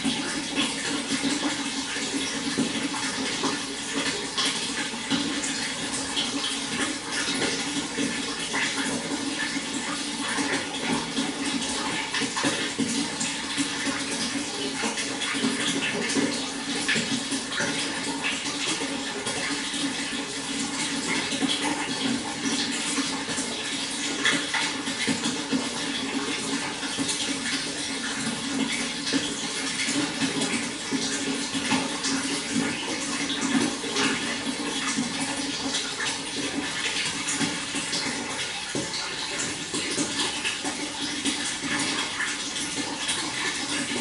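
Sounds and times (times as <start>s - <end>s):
running water splashing: 0.0s - 44.0s.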